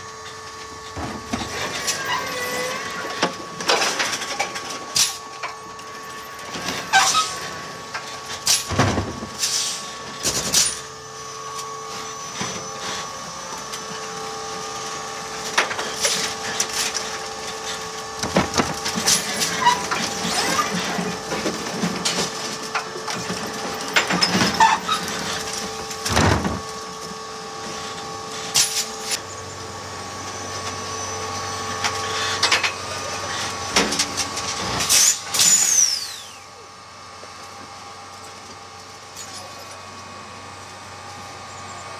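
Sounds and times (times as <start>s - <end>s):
electric drive whine: 0.0s - 41.9s.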